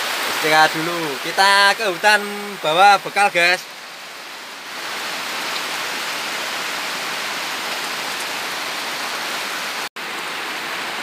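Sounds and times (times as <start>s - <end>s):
rain on a bamboo roof: 0.0s - 11.0s.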